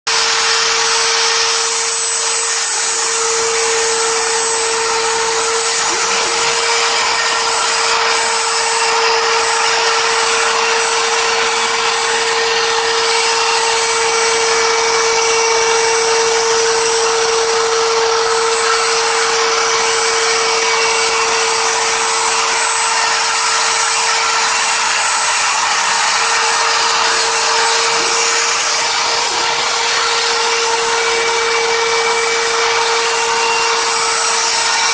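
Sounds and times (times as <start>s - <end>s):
router spindle whining: 0.1s - 34.9s.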